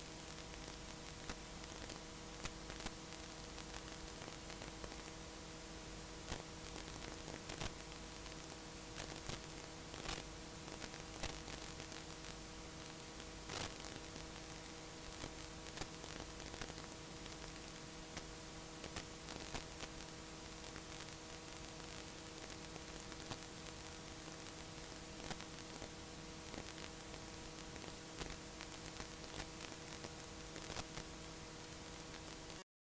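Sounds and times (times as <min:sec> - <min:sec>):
tape hiss: 0:00.0 - 0:32.6
clicks and crackles: 0:00.3 - 0:05.2, 0:06.3 - 0:32.6.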